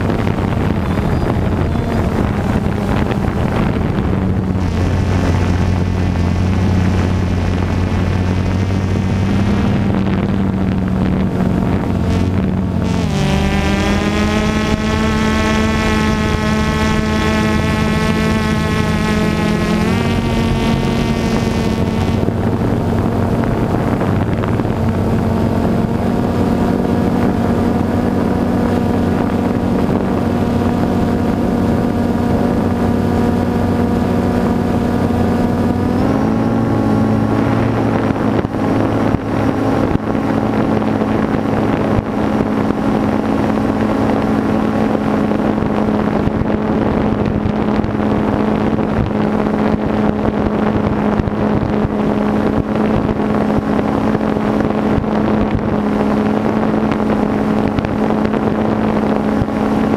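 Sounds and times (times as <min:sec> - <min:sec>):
drone propellers whining: 0:00.0 - 0:59.9
wind buffeting on microphone: 0:00.0 - 0:59.9.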